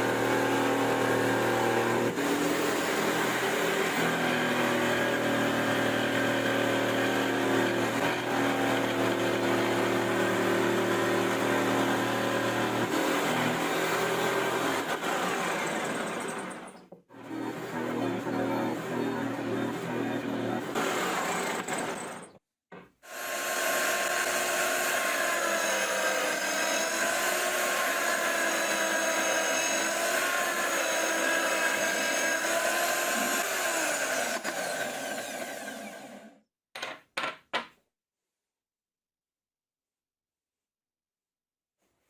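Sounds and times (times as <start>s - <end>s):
drill press boring through wood: 0.0s - 22.4s, 23.0s - 36.4s.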